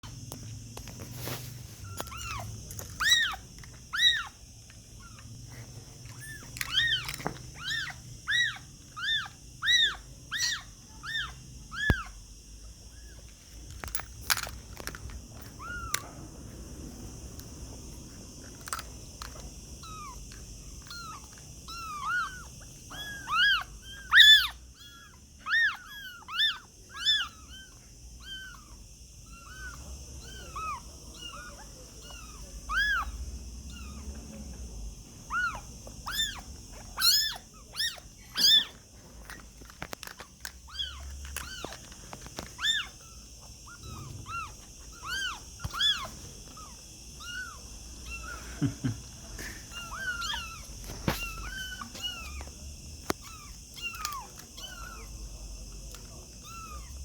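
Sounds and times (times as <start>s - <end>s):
kittens mewing: 1.8s - 13.2s, 14.3s - 16.4s, 18.7s - 34.6s, 35.2s - 57.0s.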